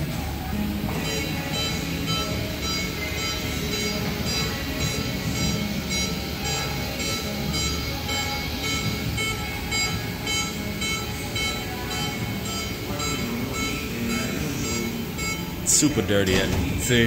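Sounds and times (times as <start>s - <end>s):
warning beeps: 0.9s - 16.8s.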